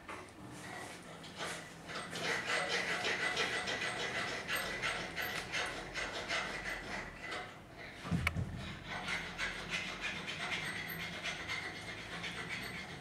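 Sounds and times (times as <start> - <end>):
metal parts rasping together: 1.2 - 7.6, 8.6 - 13.0.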